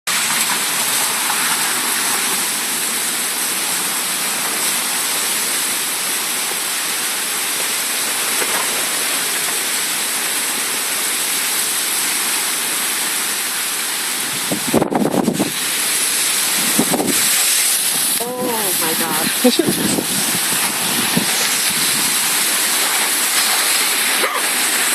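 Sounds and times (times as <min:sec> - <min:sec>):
heavy rain pouring: 0:00.1 - 0:24.9.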